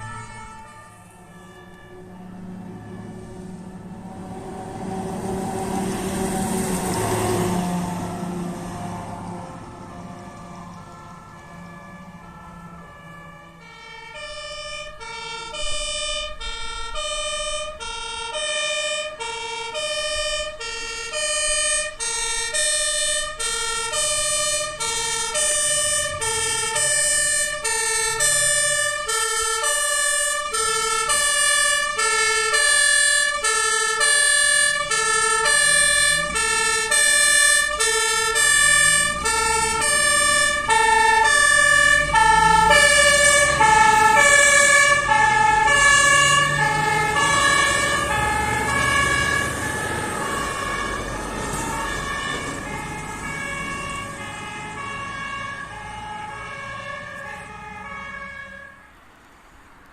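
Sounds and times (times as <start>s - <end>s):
two-tone emergency vehicle siren: 0.0s - 59.2s.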